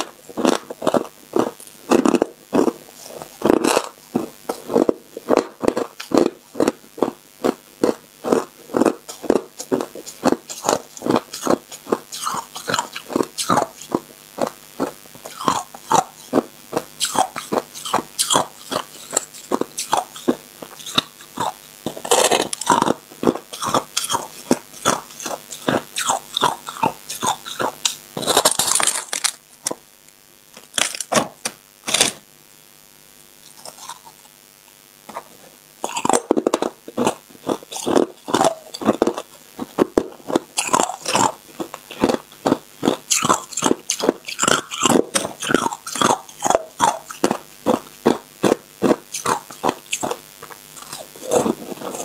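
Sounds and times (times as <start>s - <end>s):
crushed ice being chewed: 0.0s - 29.8s, 30.5s - 32.2s, 33.4s - 34.4s, 35.1s - 52.0s.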